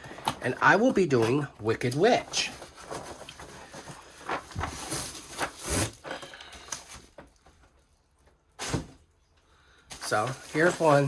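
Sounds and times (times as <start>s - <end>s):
packaging rustling: 0.0s - 8.0s, 9.9s - 11.0s.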